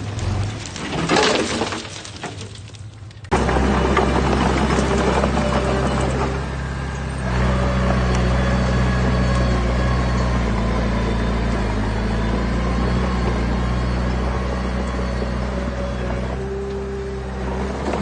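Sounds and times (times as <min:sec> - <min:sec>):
diesel engine of heavy machine running: 0:02.8 - 0:18.0.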